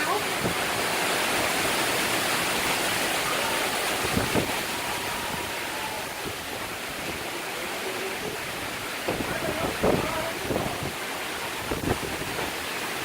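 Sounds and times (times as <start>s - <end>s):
wind and rain rushing: 0.0s - 13.0s.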